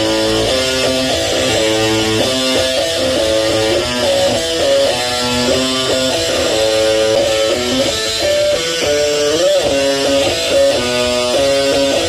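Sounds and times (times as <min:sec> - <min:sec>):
electric guitar lead line: 0:00.0 - 0:12.0.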